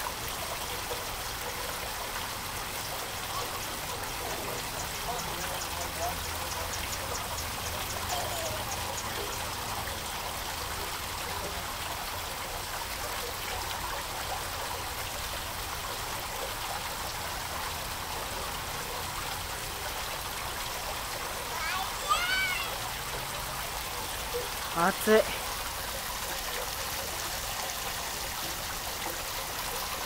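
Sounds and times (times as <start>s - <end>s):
fountain water trickling and splashing: 0.0s - 30.0s.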